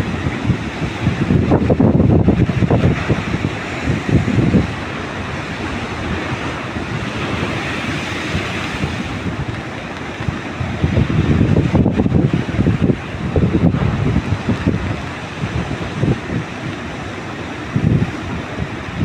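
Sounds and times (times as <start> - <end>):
sea waves washing: 0.0 - 19.0
wind buffeting microphone: 0.0 - 19.0.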